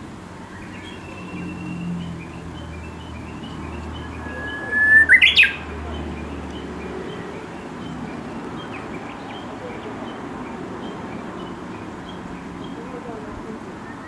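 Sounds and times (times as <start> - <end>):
bush warbler singing: 0.0 - 14.0
faint bird chirps: 0.4 - 13.2.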